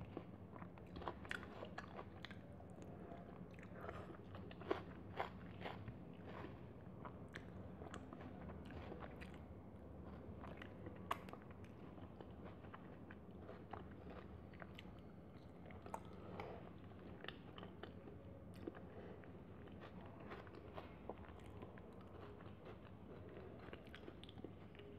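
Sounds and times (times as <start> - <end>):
chewing and mouth sounds: 0.0 - 24.9.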